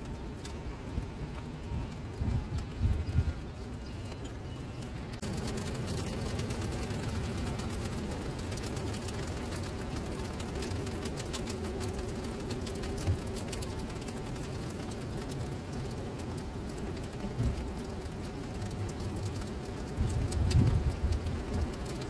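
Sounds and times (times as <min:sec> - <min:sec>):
rain pattering into water: 0:00.0 - 0:22.0.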